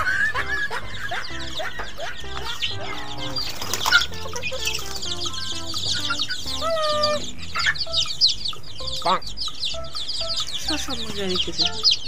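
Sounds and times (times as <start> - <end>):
background music: 0.0 - 12.0
chicks peeping: 0.0 - 12.0.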